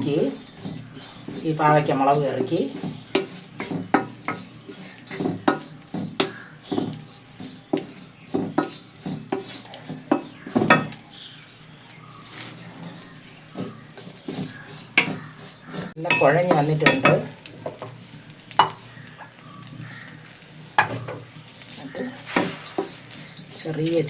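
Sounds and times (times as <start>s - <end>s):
spoon scraping and knocking pan: 0.0s - 11.2s, 12.2s - 20.0s, 20.7s - 24.0s
faint sizzle: 0.0s - 24.0s.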